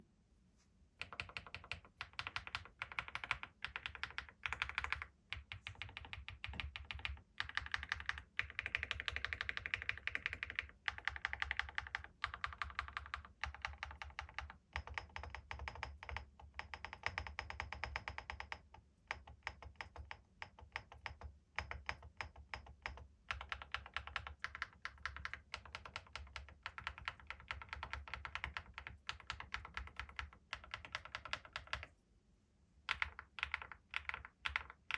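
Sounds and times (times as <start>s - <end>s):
fast keyboard typing: 1.0s - 31.9s, 32.9s - 34.9s.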